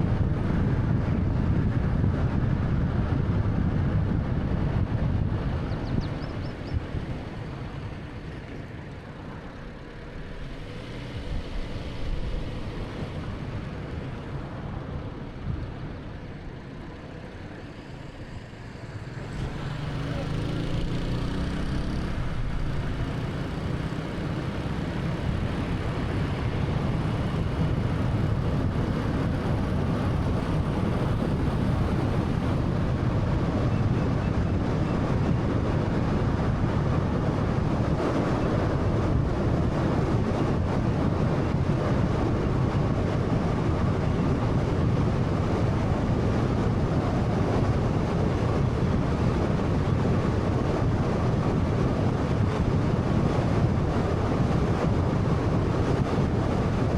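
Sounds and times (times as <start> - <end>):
car tyres and engine rumble: 0.0 - 56.9.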